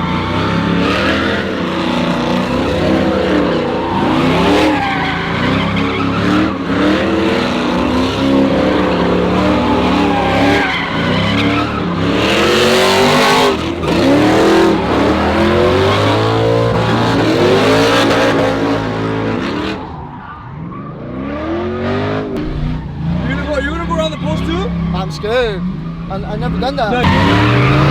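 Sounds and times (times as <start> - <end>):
tires spinning and squealing: 0.0 - 27.9
truck engine revving: 0.0 - 27.9.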